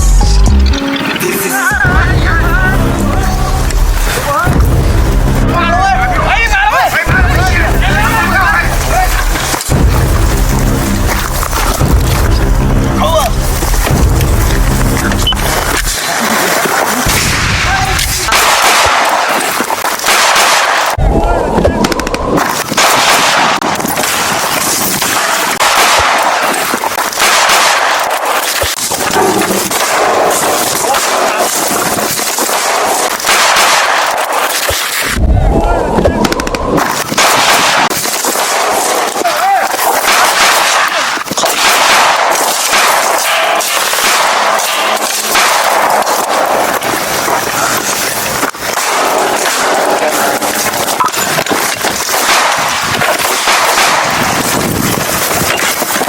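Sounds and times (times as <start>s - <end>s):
rapid gunfire: 1.8s - 21.0s, 21.8s - 35.4s, 36.1s - 56.0s.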